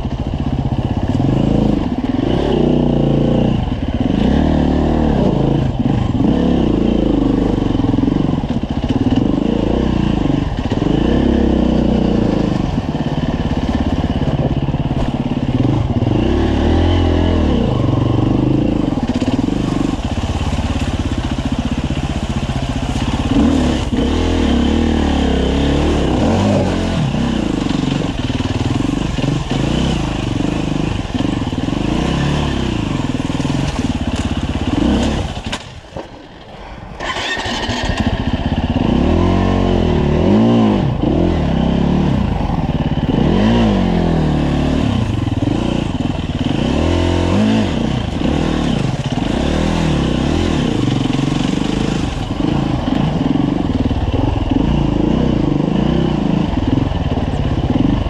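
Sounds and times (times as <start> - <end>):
dirt bike engine revving: 0.0 - 35.7, 37.0 - 58.0.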